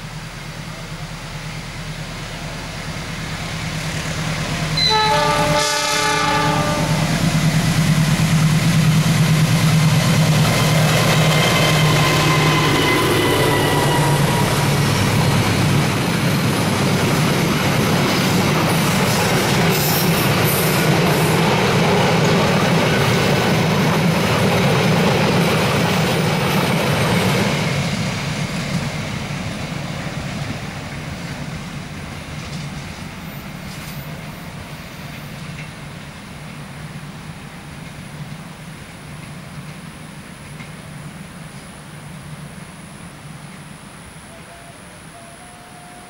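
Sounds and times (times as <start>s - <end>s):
train wheels rumbling on rail: 0.0s - 44.2s.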